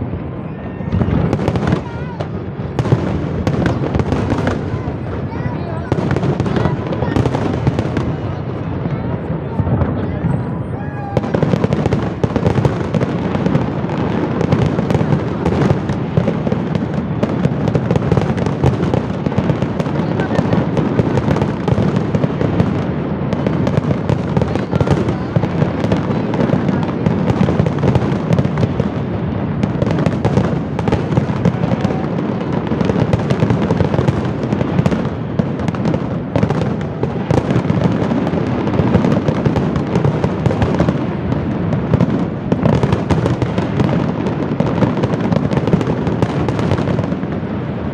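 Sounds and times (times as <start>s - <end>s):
fireworks bangs and crackle: 0.0s - 47.9s.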